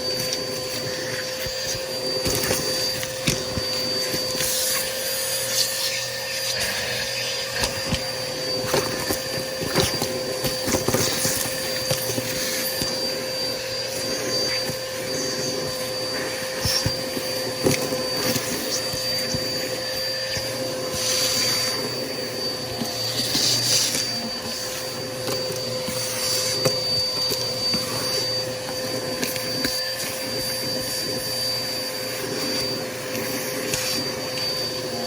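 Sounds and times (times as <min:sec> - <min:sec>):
upright vacuum running: 0:00.0 - 0:35.0.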